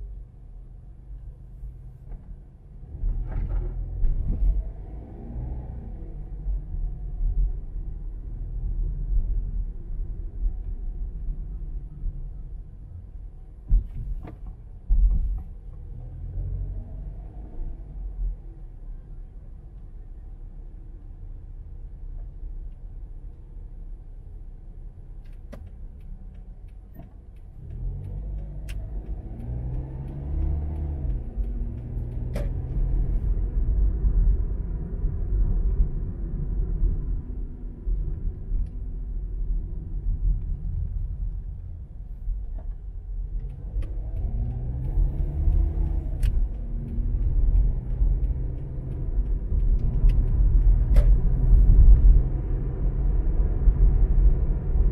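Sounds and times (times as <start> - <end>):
car engine: 0.0 - 54.9
tyre road noise: 0.0 - 54.9.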